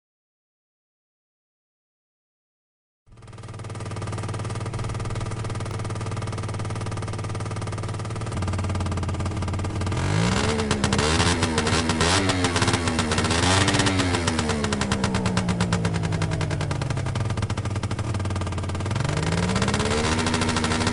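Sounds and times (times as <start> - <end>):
scooter engine idling and revving: 3.1 - 20.9.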